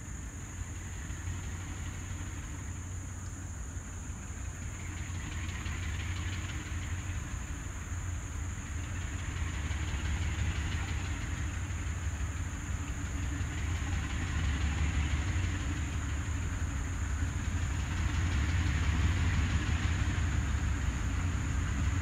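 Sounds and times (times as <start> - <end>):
locomotive engine rumble: 0.0 - 22.0.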